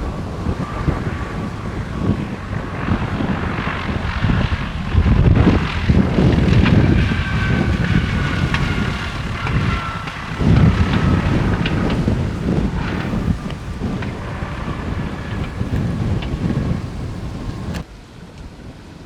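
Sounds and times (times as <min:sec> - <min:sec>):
propeller airplane engine droning: 0:00.0 - 0:19.0
wind buffeting microphone: 0:00.0 - 0:19.0.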